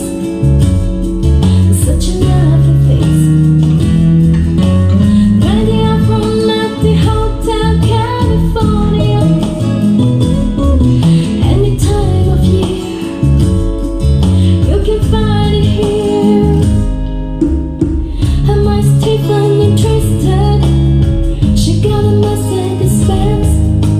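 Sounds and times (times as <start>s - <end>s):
song with singing and strong bass: 0.0s - 23.9s.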